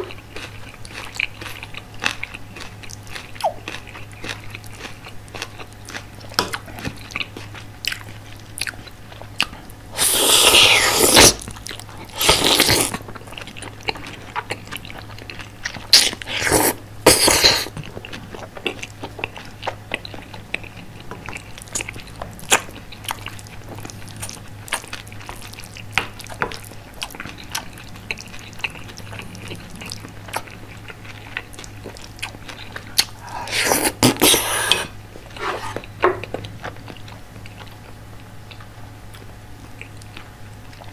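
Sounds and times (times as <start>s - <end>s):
steady low hum: 0.0s - 40.9s
wet chewing and mouth clicks: 0.0s - 40.9s.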